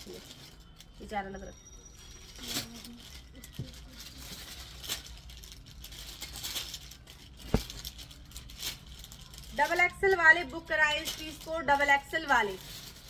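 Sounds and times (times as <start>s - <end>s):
clothes rustling and crinkling: 2.2s - 13.0s.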